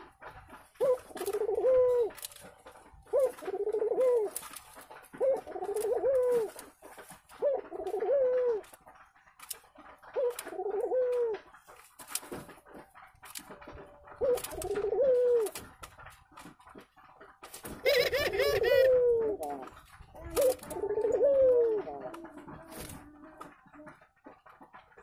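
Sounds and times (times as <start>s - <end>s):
dove cooing: 0.0s - 16.9s, 17.5s - 24.7s.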